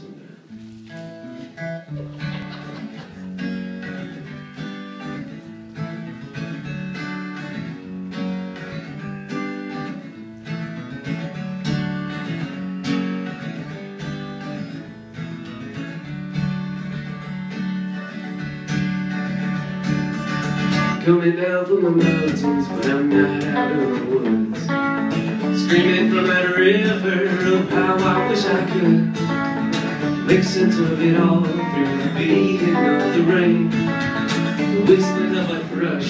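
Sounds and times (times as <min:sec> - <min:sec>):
electric guitar playing: 0:00.0 - 0:36.0
acoustic guitar strumming: 0:00.1 - 0:36.0.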